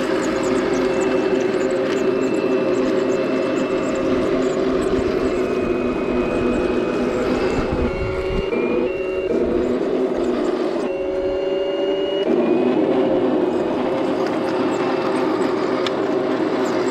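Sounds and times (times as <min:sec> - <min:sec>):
toy tank motor whine: 0:00.0 - 0:16.9.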